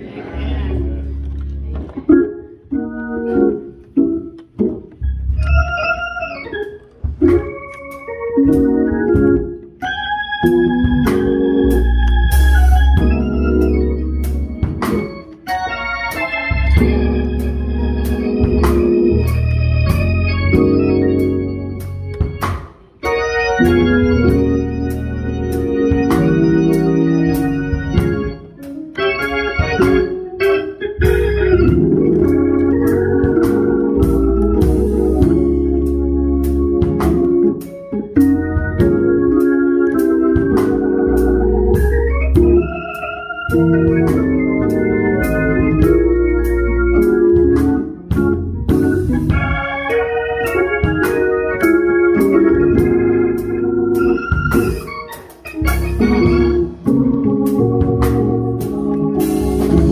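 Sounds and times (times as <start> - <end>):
church organ chords: 0.3 - 59.9.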